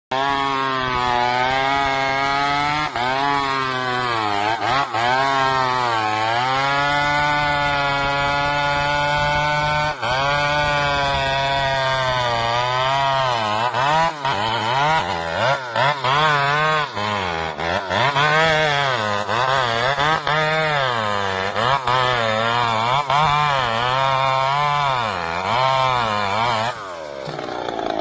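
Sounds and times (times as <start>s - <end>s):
chainsaw engine at high revs: 0.1s - 28.0s.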